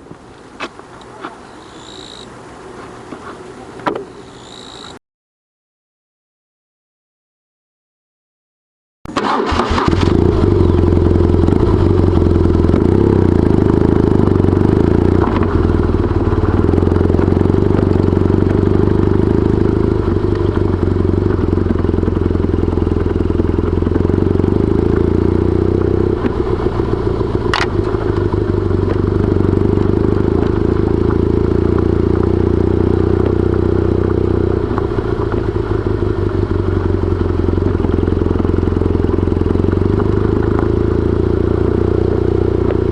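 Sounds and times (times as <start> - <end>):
wind and road noise: 0.0 - 5.0, 9.4 - 42.9
motorcycle engine running: 1.5 - 2.3, 9.2 - 42.9.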